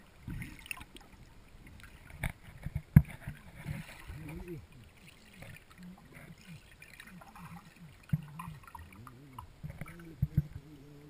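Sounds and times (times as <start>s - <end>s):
underwater gurgling and bubbling: 0.0s - 11.0s.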